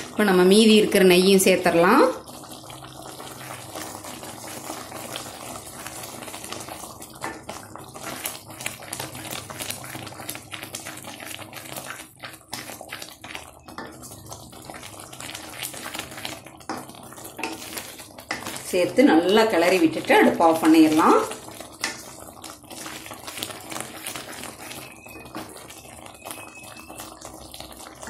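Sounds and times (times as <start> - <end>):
thick halwa bubbling: 0.0 - 28.0
wooden spatula scraping: 3.1 - 25.7.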